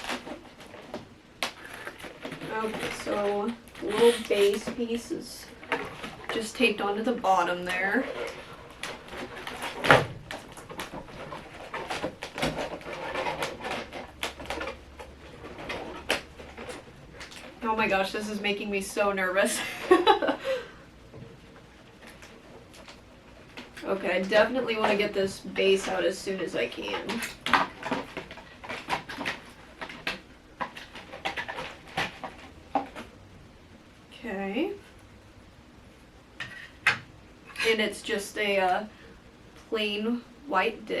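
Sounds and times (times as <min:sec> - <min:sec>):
packaging rustling and scraping: 0:00.0 - 0:33.3.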